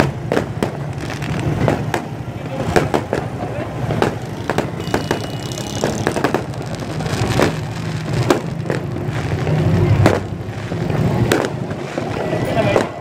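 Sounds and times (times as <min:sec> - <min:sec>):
fireworks bangs: 0:00.0 - 0:13.0
road traffic drone: 0:00.0 - 0:13.0.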